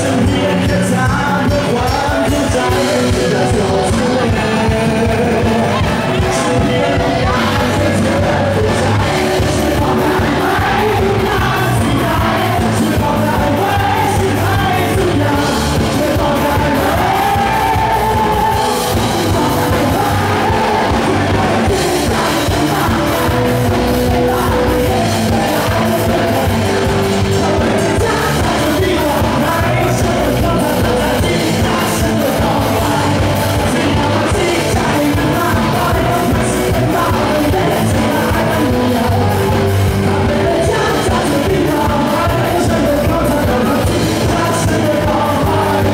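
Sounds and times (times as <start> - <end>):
drum kit: 0.0 - 45.9
electric guitars: 0.0 - 45.9
man singing lead vocals: 0.0 - 45.9
shouted vocals: 2.7 - 39.5.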